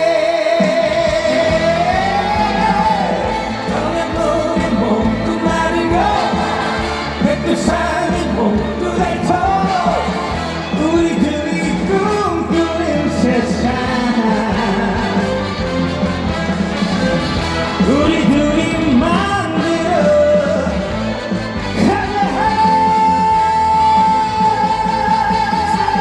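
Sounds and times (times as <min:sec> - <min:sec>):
trot song over stage pa: 0:00.0 - 0:26.0.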